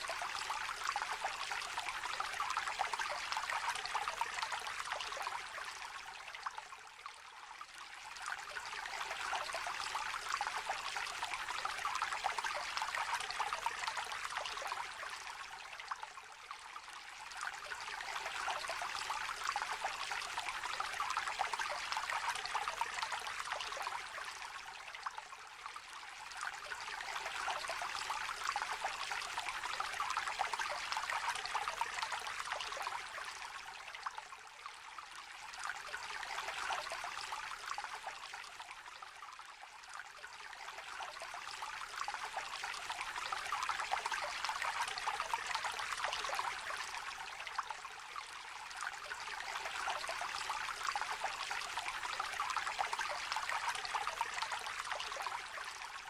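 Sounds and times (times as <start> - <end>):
stream trickling and babbling: 0.0 - 56.0.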